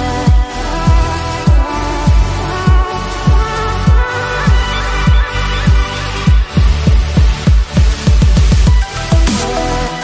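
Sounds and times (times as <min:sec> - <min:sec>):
deep kick drum: 0:00.3 - 0:09.3.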